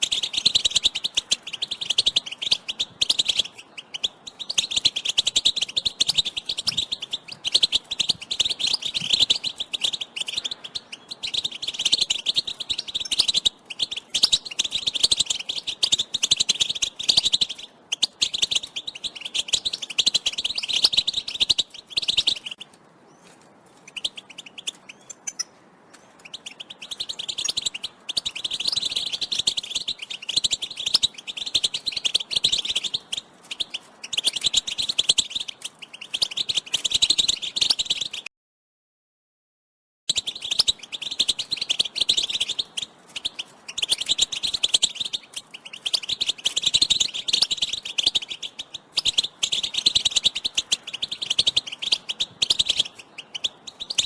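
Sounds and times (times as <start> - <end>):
finch twittering: 0.0 - 38.3, 40.1 - 54.0.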